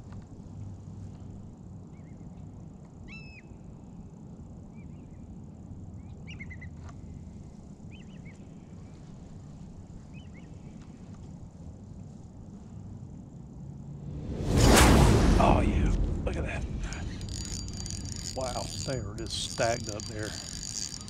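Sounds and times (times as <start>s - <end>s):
low outdoor background rumble: 0.0s - 21.0s.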